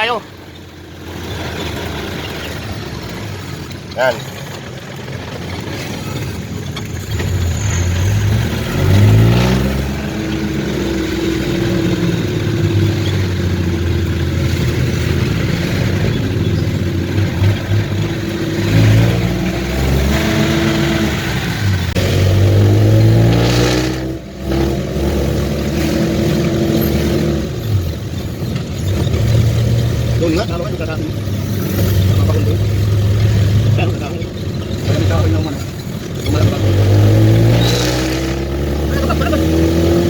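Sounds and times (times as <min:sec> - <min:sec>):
vehicle engine accelerating: 0:00.0 - 0:40.0.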